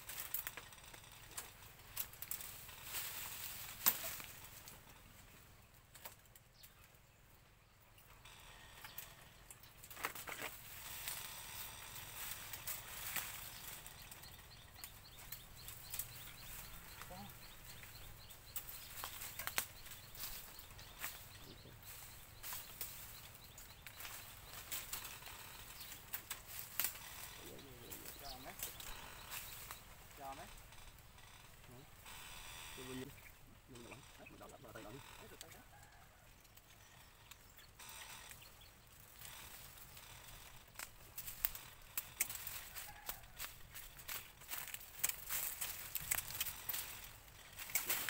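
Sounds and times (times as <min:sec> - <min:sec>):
bamboo crackling and rustling: 0:00.0 - 0:07.2, 0:08.0 - 0:48.0.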